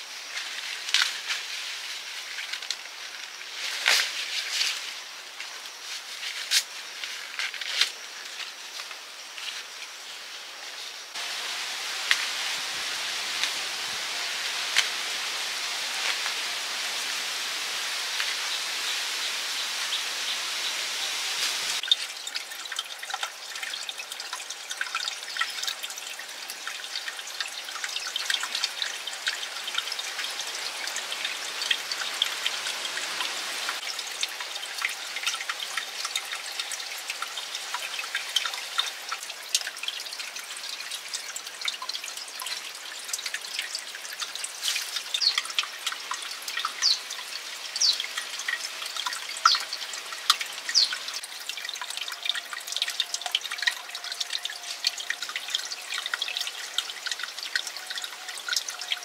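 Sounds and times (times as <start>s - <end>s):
water trickling and dripping: 0.0s - 59.0s.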